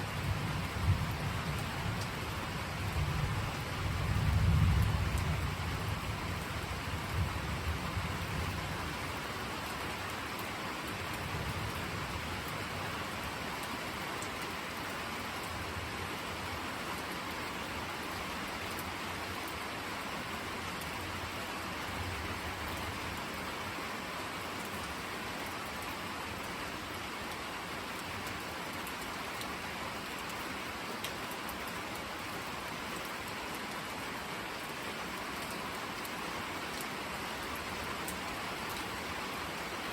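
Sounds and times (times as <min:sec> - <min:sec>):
rain spattering on surfaces: 0:00.0 - 0:39.9.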